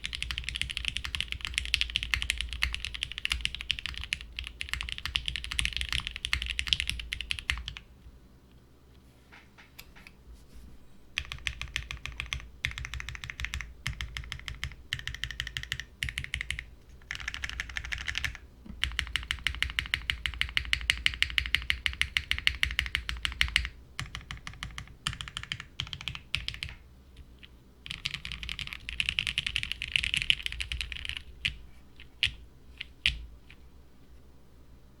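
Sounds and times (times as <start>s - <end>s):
mechanical keyboard typing: 0.0s - 7.9s, 11.2s - 27.3s, 27.9s - 33.2s.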